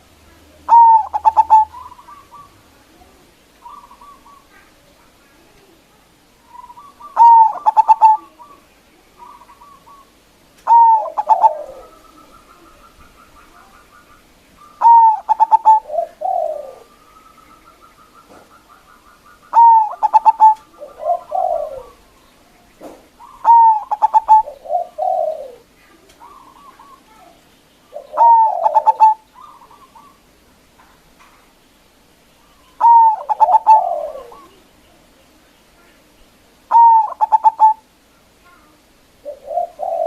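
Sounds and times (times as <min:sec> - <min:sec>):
dove cooing song: 0:00.0 - 0:04.8, 0:06.4 - 0:27.2, 0:27.9 - 0:30.4, 0:32.4 - 0:34.7, 0:36.7 - 0:38.0, 0:39.1 - 0:40.0.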